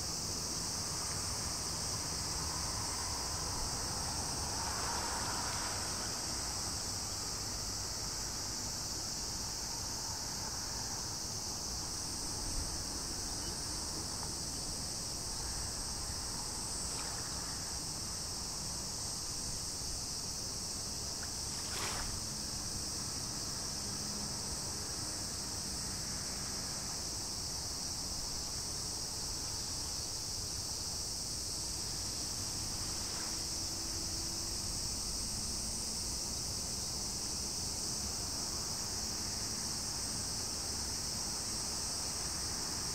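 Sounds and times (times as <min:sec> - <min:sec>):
insects chirping chorus: 0:00.0 - 0:42.9.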